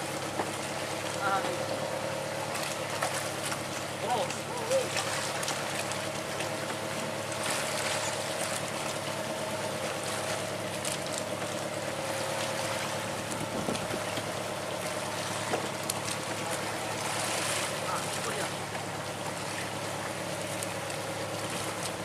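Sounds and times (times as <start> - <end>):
boat engine running: 0.0 - 22.0
water sloshing against hulls: 0.0 - 22.0.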